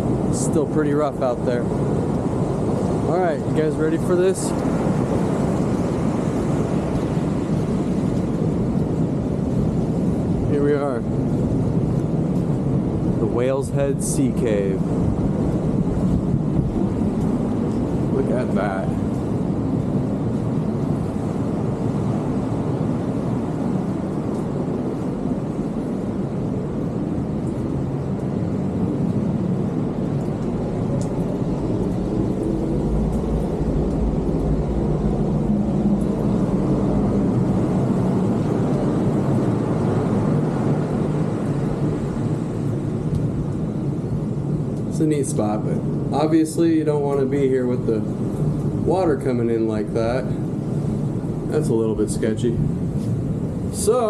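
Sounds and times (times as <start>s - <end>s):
ocean surf rumbling in cave: 0.0s - 54.0s.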